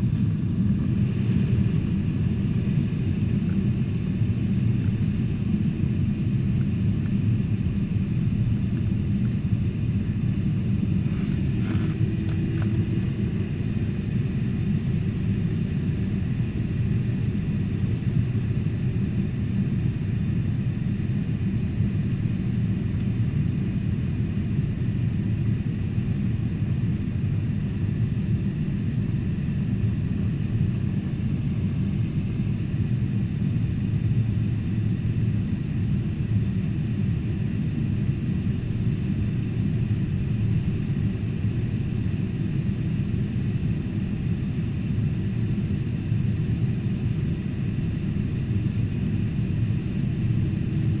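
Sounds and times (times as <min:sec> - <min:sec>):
airplane cabin drone: 0:00.0 - 0:51.0.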